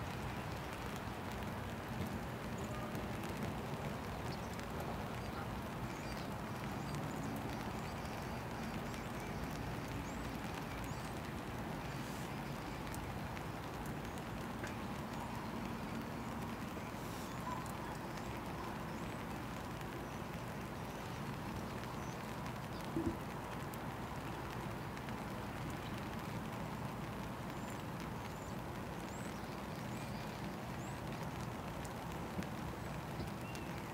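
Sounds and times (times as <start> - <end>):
wet-weather noise: 0.0 - 33.9.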